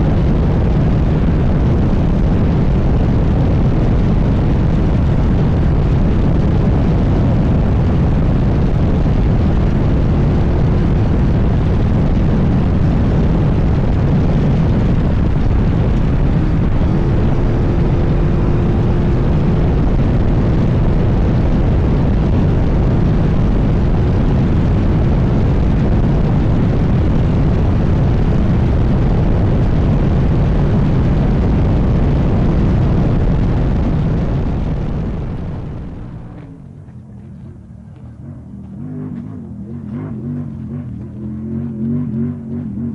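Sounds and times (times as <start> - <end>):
race car engine rumble: 0.0 - 42.9.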